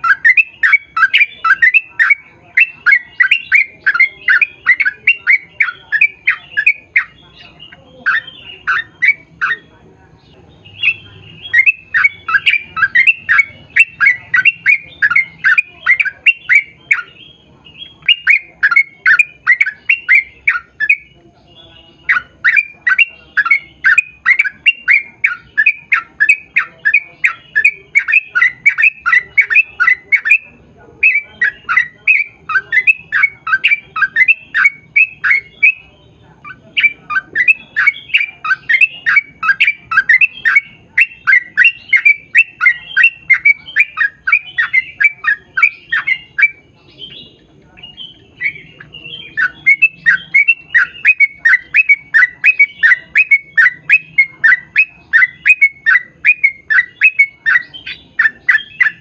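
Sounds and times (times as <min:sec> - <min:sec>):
bird singing chattering notes: 0:00.0 - 0:59.0.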